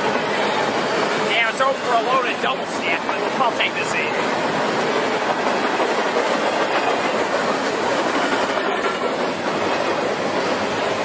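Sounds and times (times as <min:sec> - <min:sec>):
freight train wheels clattering: 0:00.0 - 0:11.0.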